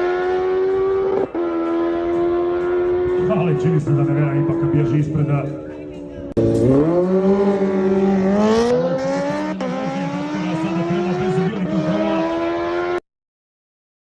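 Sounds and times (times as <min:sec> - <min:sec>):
engine accelerating hard: 0:00.0 - 0:05.6, 0:06.3 - 0:13.0.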